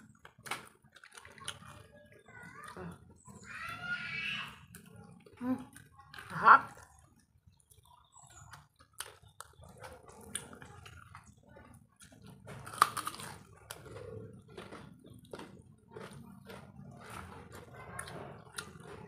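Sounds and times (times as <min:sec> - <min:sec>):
people chewing food: 0:00.0 - 0:19.0.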